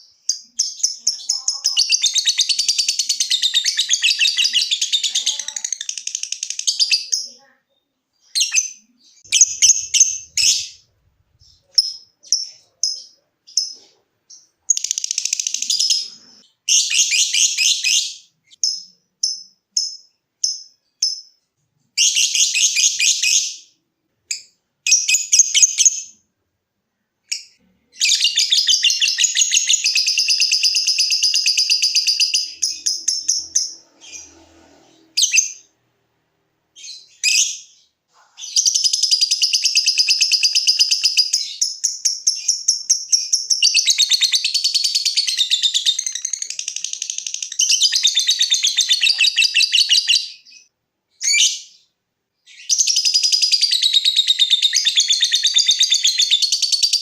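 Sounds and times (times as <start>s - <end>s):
lovebird chirping: 0.0s - 26.3s, 27.2s - 35.8s, 36.7s - 57.0s.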